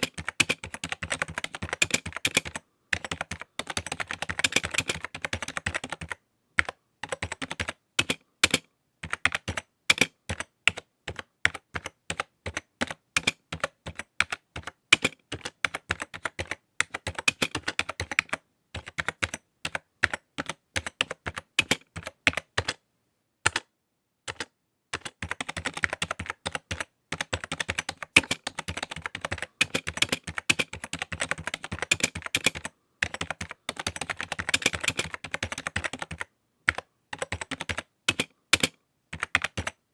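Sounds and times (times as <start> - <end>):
typing on computer keyboard: 0.0 - 22.8, 23.5 - 23.7, 24.3 - 39.8.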